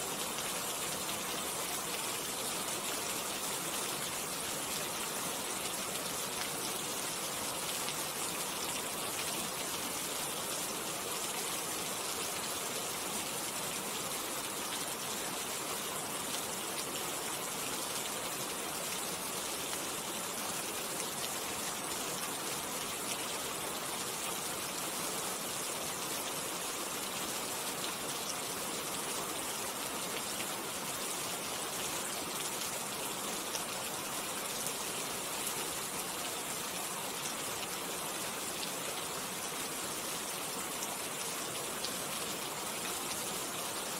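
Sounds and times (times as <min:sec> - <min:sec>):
rain falling steadily: 0:00.0 - 0:43.9.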